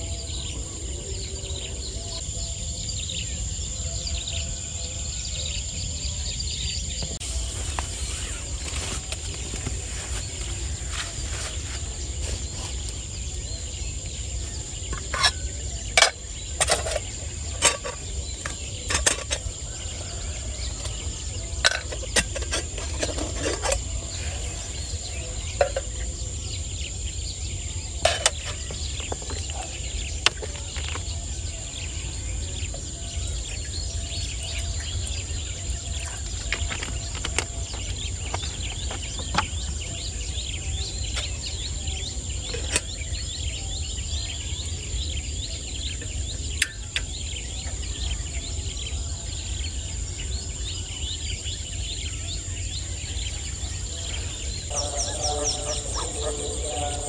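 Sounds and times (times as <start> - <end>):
birds chirping: 0.0 - 57.0
high insect whine: 0.0 - 57.0.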